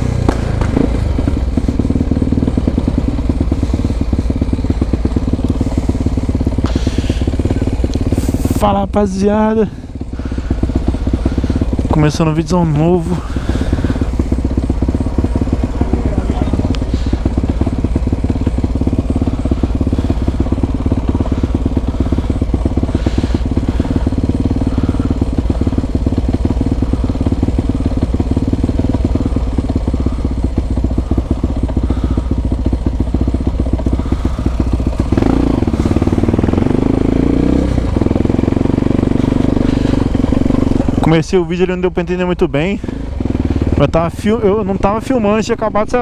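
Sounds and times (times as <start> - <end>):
motorcycle engine at low speed: 0.0 - 46.0
second motorcycle riding ahead: 0.0 - 46.0.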